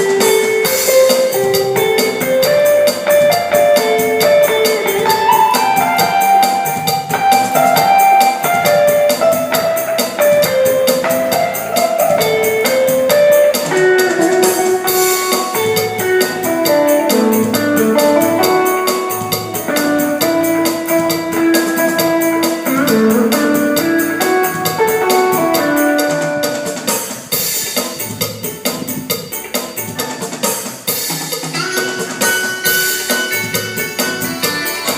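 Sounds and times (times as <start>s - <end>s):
keyboard cha-cha-cha music: 0.0s - 34.9s.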